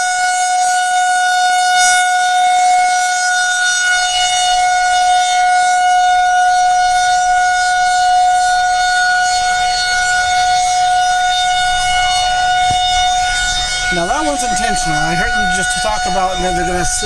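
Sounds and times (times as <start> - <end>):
tornado warning siren steady tone: 0.0 - 17.0.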